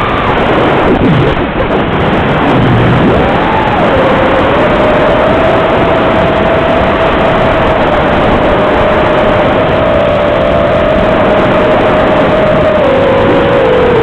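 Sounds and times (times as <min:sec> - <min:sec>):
heavy rushing noise: 0:00.0 - 0:14.0
drone motors whining: 0:02.0 - 0:14.0.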